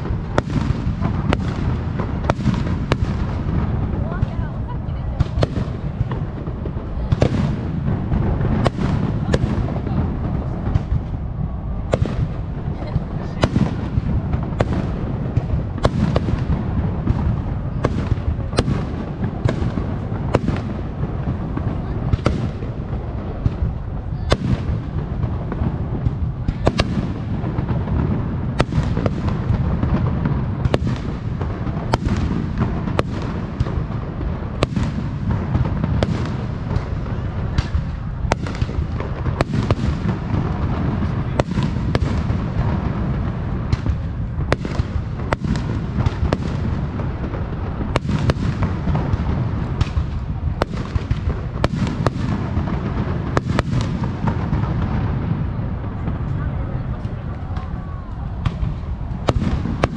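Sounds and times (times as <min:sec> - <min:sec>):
fireworks bursting: 0:00.0 - 0:59.9
low rumble of bursts: 0:00.0 - 0:59.9.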